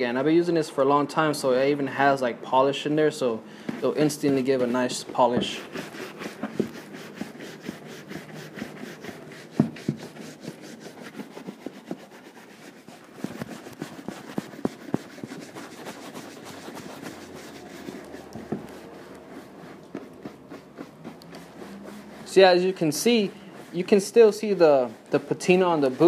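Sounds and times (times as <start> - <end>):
brush swishing on leather boot: 1.4 - 26.0.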